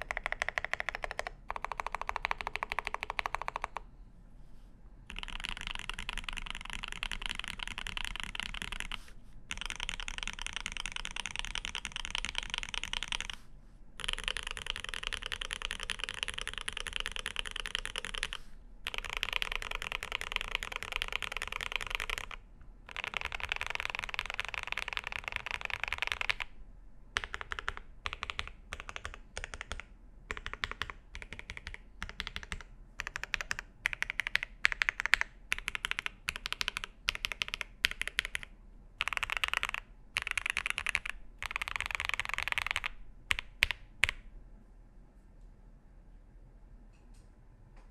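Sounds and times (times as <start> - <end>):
mechanical keyboard typing: 0.0 - 3.9, 5.1 - 13.4, 14.0 - 26.6, 27.2 - 44.2.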